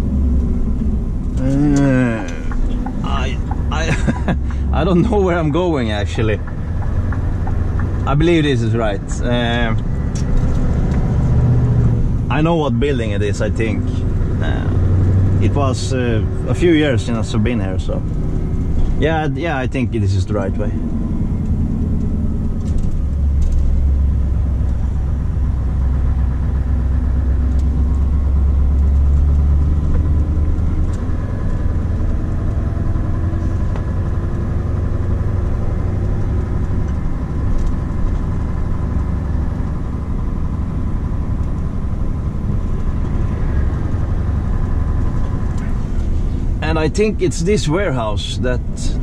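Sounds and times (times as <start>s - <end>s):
road noise: 0.0s - 49.0s
truck diesel engine running: 0.0s - 49.0s.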